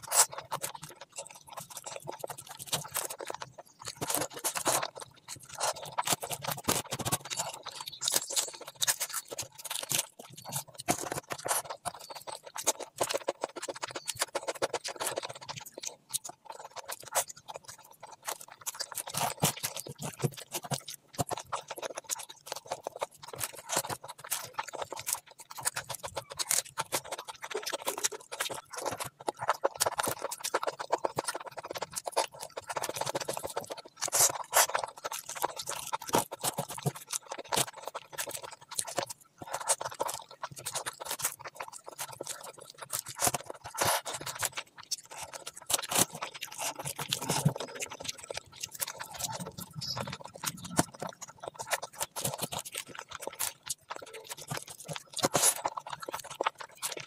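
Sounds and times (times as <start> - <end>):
chewing with quick clicks: 0.0 - 57.0
fingers working through food: 0.0 - 57.0.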